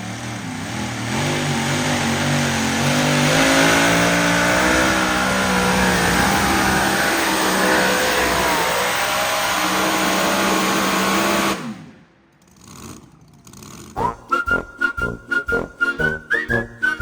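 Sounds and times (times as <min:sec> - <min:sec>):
vehicle engine revving under load: 0:00.0 - 0:14.2.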